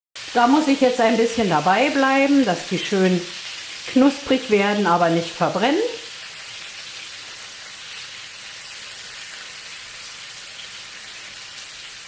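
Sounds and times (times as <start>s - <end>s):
onion rings sizzling in fat: 0.2s - 12.0s.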